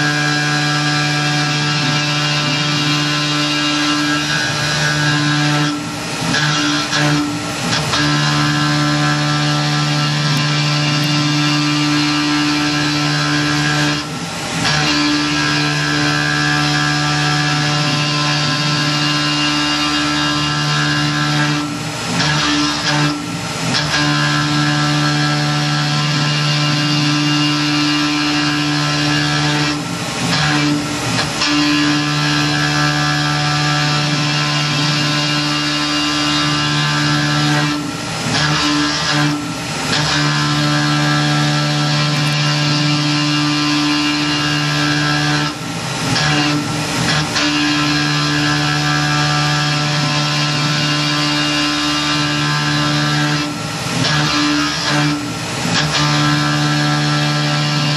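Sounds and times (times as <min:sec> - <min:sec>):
mill cutting aluminum: 0:00.0 - 0:57.9.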